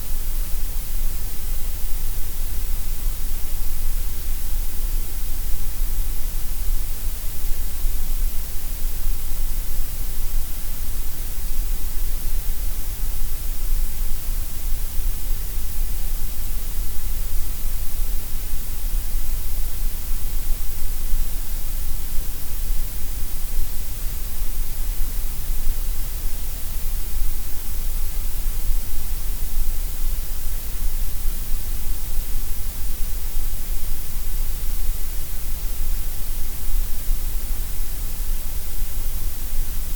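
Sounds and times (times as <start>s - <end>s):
steady gray noise hiss: 0.0s - 39.9s.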